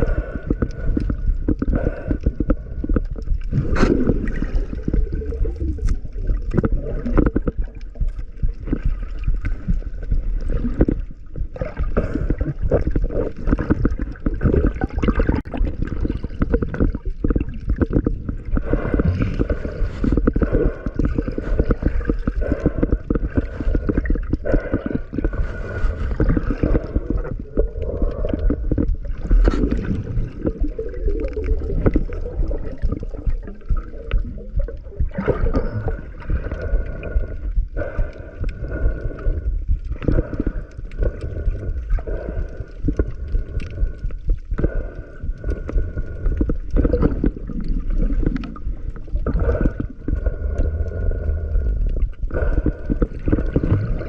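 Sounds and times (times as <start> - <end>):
constant low rumble: 0.0 - 54.0
dense irregular crackle: 0.0 - 54.0
underwater bubbling and gurgling: 0.0 - 54.0.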